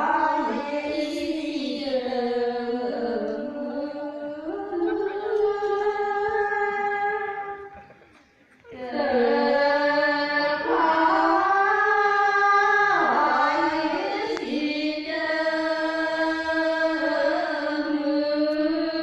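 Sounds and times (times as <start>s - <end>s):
women's choir singing unaccompanied: 0.0s - 7.7s, 8.7s - 19.0s.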